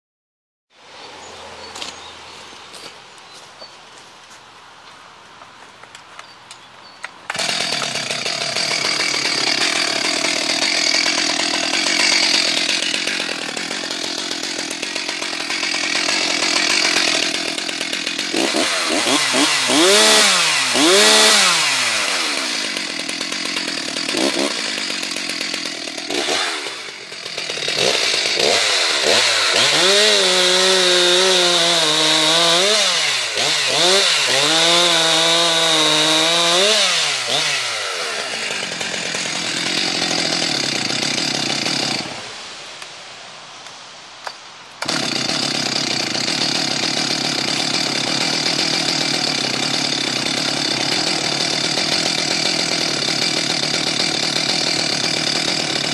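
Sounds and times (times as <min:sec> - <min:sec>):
chainsaw cutting log: 0:07.2 - 0:42.5, 0:44.8 - 0:55.9.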